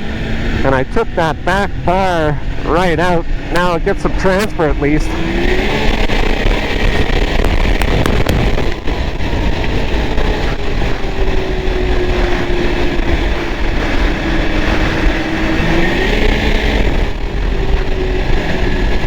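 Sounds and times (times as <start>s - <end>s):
snowmobile engine running hard: 0.0s - 19.0s
track rumble: 0.0s - 19.0s
wind: 0.0s - 19.0s.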